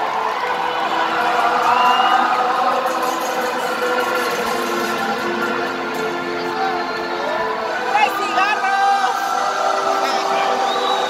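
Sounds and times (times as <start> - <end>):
arena crowd noise: 0.0 - 11.0.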